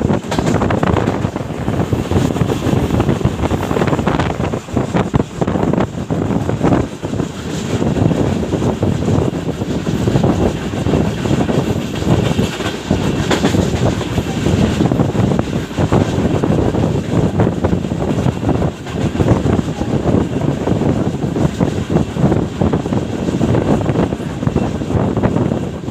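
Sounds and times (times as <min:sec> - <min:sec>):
train coaches knocking: 0:00.0 - 0:25.9
train wheels rumbling on rails: 0:00.0 - 0:25.9.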